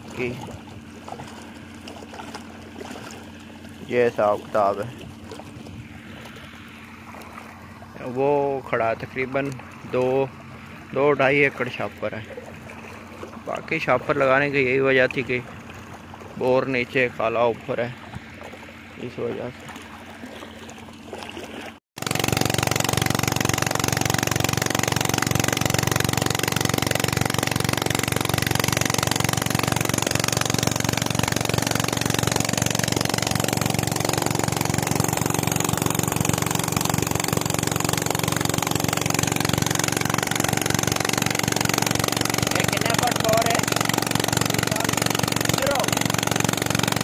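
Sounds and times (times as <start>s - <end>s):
small pump engine running: 0.0s - 47.0s
water gushing from pipe: 0.0s - 47.0s.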